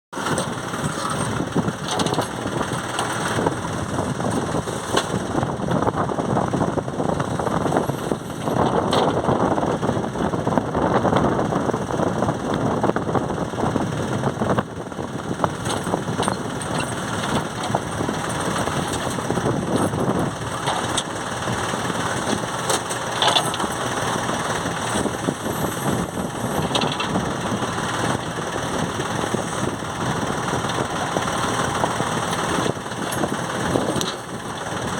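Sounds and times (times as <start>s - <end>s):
diesel loader engine running: 0.1s - 34.9s.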